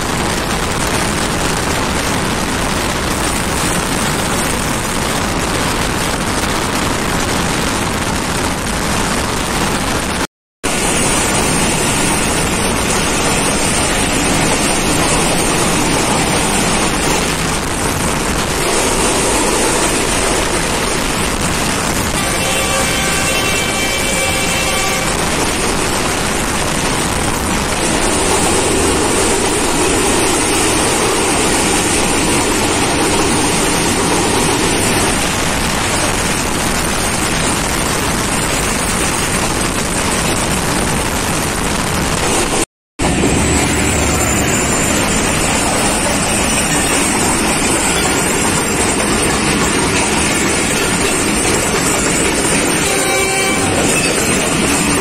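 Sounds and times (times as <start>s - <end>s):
train rumble and wind rush: 0.0s - 55.0s.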